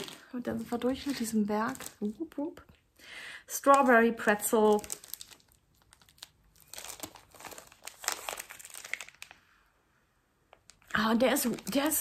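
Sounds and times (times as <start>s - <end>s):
plastic bag crinkling: 0.0s - 2.5s, 3.5s - 9.5s, 10.5s - 12.0s.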